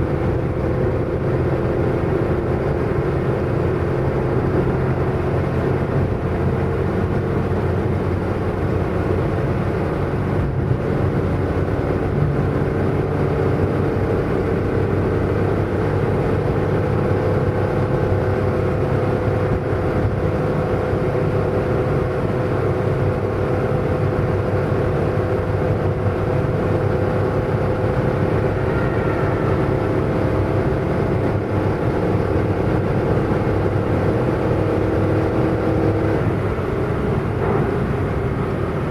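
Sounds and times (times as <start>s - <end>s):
car engine droning: 0.0s - 38.9s
road and tyre noise: 0.0s - 38.9s.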